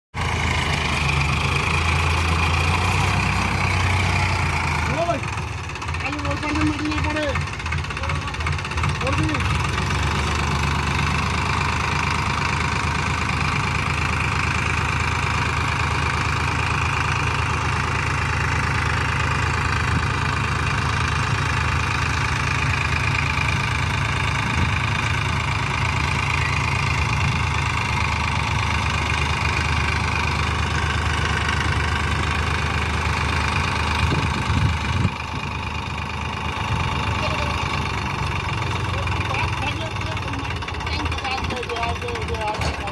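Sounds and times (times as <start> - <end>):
tractor diesel engine running: 0.1 - 42.9.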